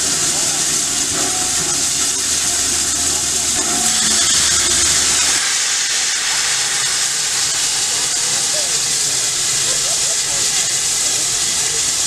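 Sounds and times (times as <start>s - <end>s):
steam locomotive venting steam: 0.0s - 12.0s.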